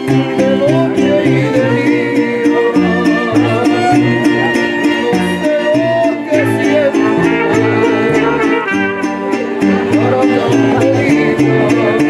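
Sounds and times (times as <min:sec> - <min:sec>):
strummed guitars: 0:00.0 - 0:12.0
violin melody: 0:00.0 - 0:12.0.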